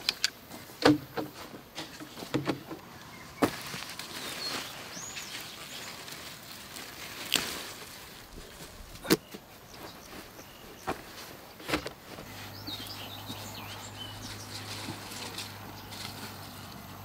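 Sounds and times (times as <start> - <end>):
birds chirping: 0.0 - 7.4, 8.0 - 17.0
vines snapping and rustling: 0.0 - 17.0.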